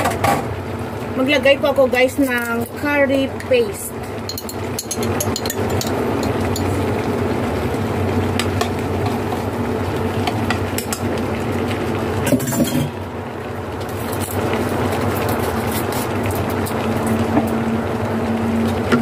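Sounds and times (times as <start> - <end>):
food sizzling in a wok: 0.4 - 18.9.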